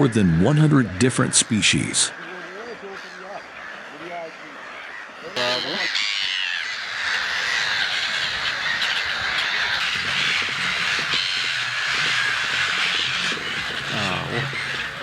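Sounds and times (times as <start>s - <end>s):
gulls squawking: 0.0s - 15.0s.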